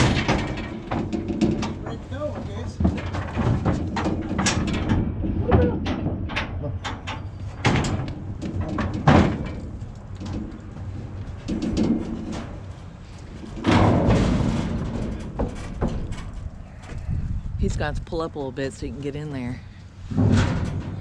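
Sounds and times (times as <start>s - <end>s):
metal trailer clanging and banging: 0.0s - 17.0s, 18.2s - 21.0s
metal trailer rattling clatter: 0.0s - 17.1s, 19.9s - 21.0s.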